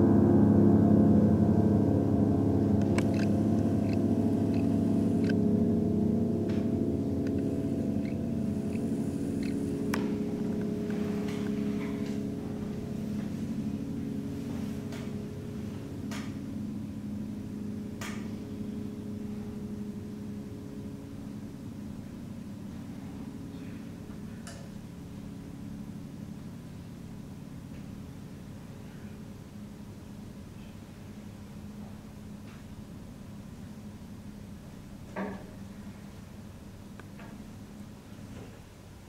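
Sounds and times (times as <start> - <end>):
piano and cello chord: 0.0 - 32.0.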